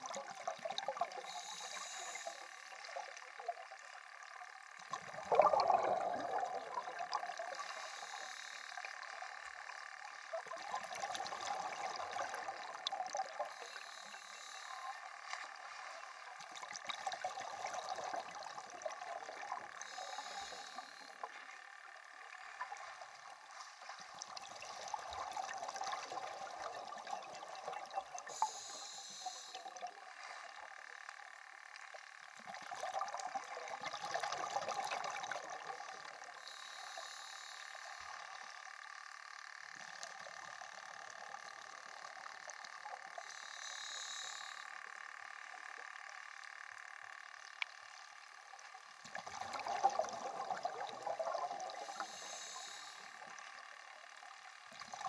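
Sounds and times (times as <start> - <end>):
underwater water and bubbles hiss: 0.0 - 55.0.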